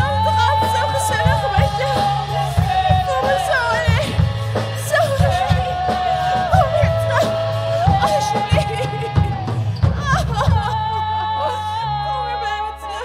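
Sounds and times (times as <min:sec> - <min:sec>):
bass: 0:00.0 - 0:13.0
drums: 0:00.0 - 0:13.0
person singing: 0:00.0 - 0:13.0.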